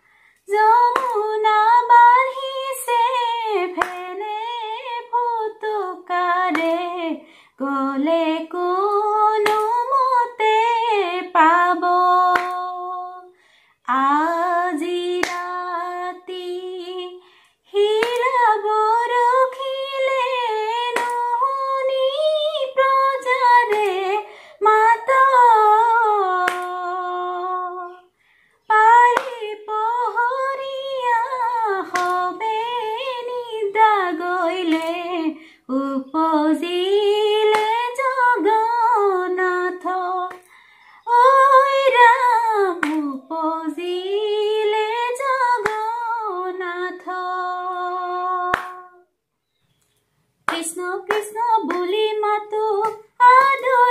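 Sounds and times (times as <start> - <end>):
woman singing unaccompanied: 0.4 - 49.2, 50.4 - 53.9.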